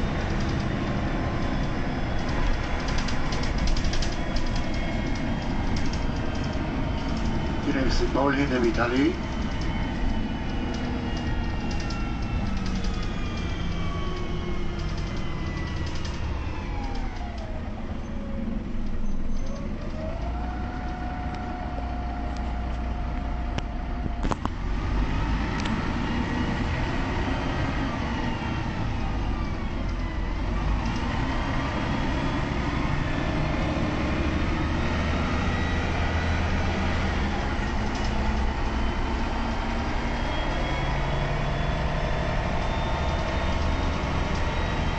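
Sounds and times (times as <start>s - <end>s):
bus transmission whine: 0.0s - 44.9s
low diesel engine rumble: 0.0s - 44.9s.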